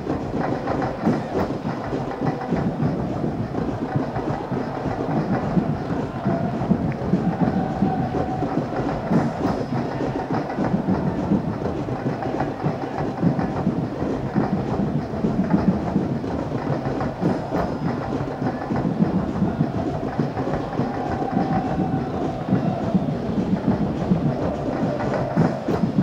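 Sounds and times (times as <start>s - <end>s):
stadium crowd murmur: 0.0s - 26.0s.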